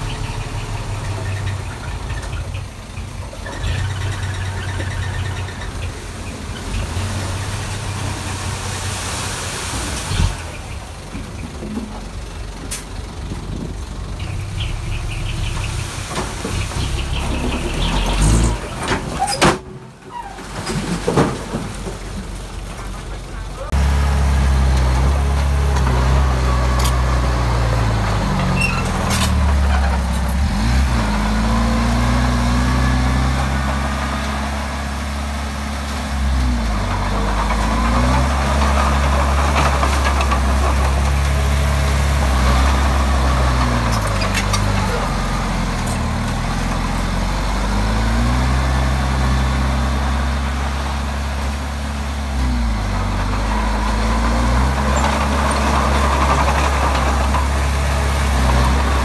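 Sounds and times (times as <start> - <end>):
bulldozer diesel engine working: 0.0 - 59.0.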